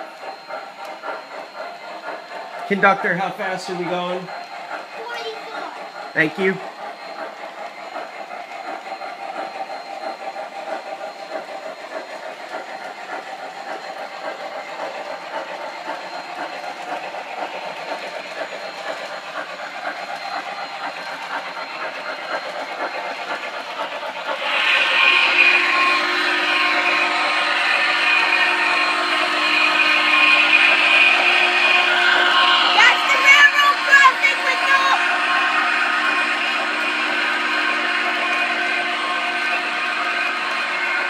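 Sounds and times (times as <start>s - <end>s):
model steam locomotive chuffing: 0.0s - 41.0s
train rumbling on track: 0.0s - 41.0s.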